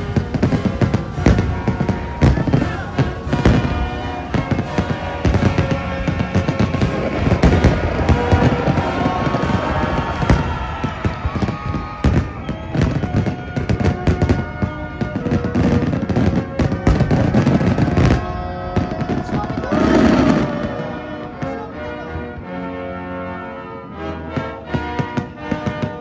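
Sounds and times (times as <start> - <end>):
fireworks bursting: 0.0 - 21.6
music: 0.0 - 26.0.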